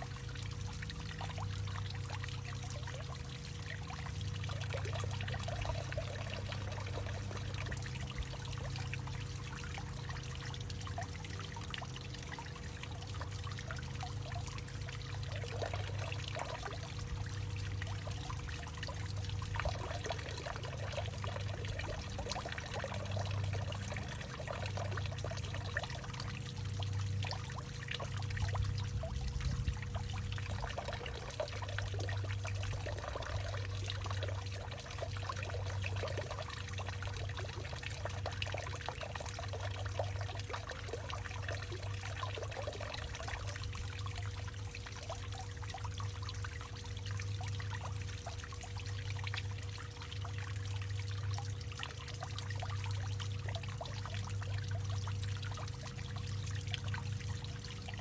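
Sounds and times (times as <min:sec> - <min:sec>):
water pouring and trickling: 0:00.0 - 0:58.0.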